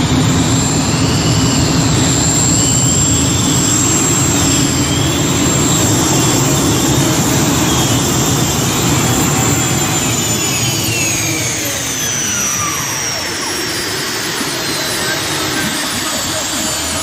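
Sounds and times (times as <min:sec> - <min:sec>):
high whine falling in pitch: 0:00.0 - 0:17.0
tractor engines running loud: 0:00.0 - 0:17.0.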